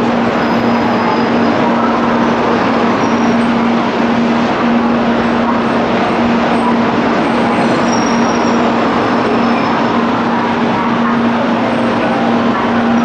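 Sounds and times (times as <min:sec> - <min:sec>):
train running past: 0:00.0 - 0:13.0.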